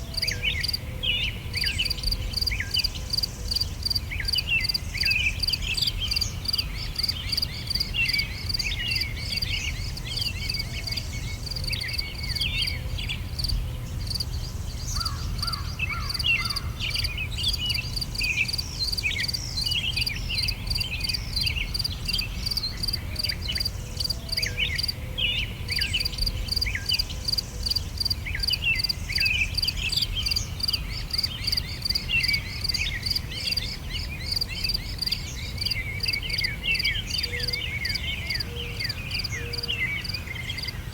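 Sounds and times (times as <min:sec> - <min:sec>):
crickets chirping: 0:00.0 - 0:00.8, 0:01.6 - 0:25.0, 0:25.7 - 0:40.9
songbirds calling: 0:00.0 - 0:40.9.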